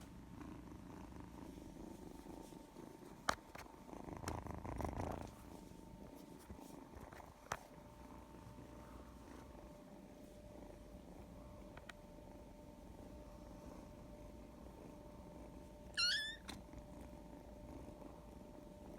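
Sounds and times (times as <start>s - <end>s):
cat purring: 0.0s - 18.9s.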